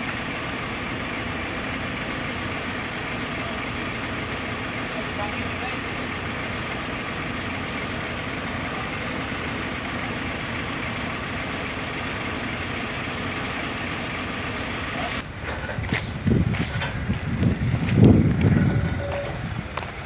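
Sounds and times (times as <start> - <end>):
heavy diesel engine idling: 0.0 - 20.0.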